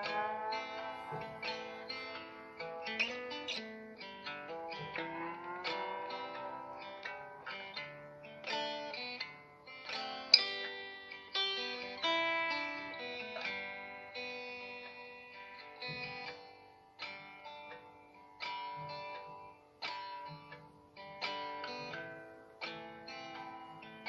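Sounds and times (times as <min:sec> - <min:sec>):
plucked guitar-like music: 0:00.0 - 0:24.0.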